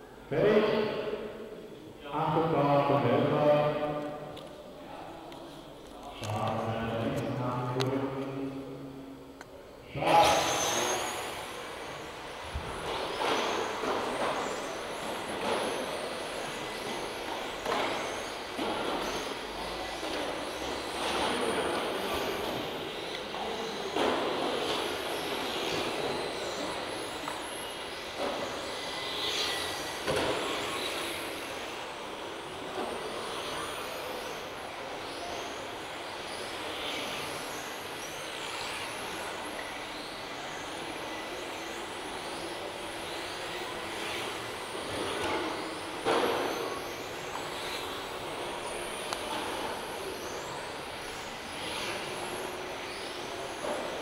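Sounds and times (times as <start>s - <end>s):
rc car motors whining: 10.1s - 54.0s.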